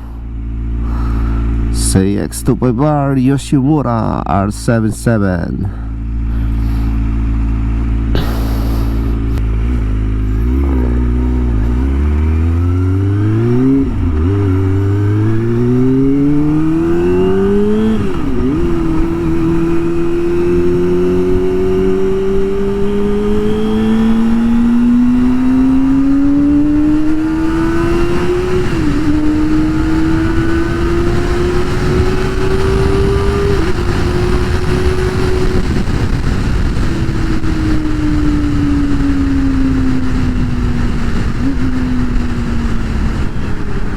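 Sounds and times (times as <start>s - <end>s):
motorcycle engine accelerating hard: 0.0s - 3.2s, 3.8s - 43.9s.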